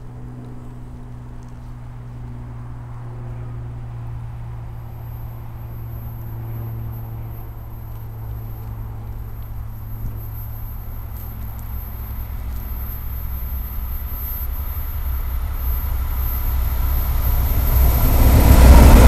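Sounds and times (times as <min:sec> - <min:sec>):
locomotive engine drone: 0:00.0 - 0:19.0
wind rumbling on microphone: 0:00.0 - 0:19.0.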